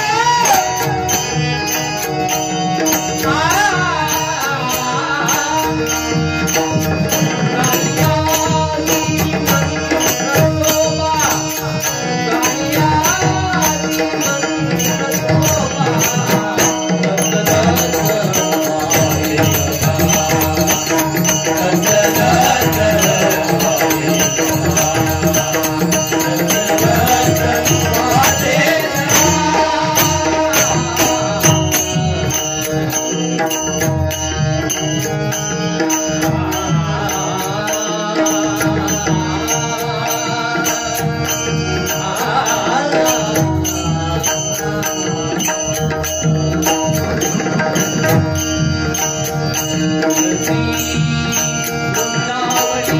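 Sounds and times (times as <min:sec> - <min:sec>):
men singing devotional song: 0:00.0 - 0:52.9
rhythmic percussion clatter: 0:00.0 - 0:52.9.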